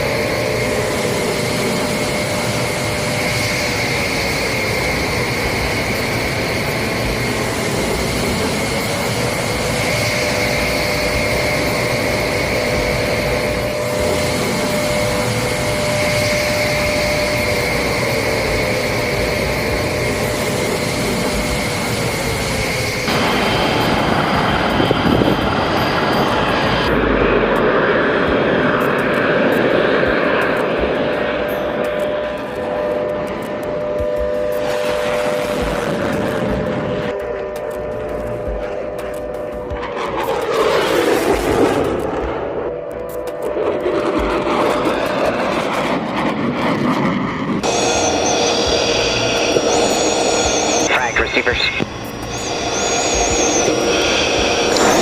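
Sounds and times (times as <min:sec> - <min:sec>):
aircraft engine with high whine: 0:00.0 - 0:55.0.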